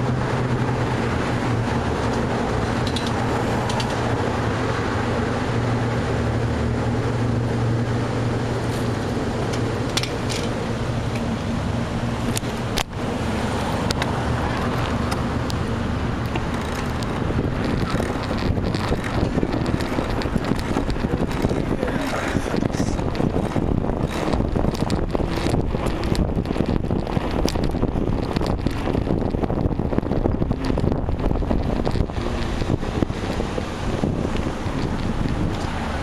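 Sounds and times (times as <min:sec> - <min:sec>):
bicycle knocks and rattles: 0:00.0 - 0:04.3, 0:08.6 - 0:11.5, 0:12.2 - 0:36.0
wind buffeting microphone: 0:00.0 - 0:36.0.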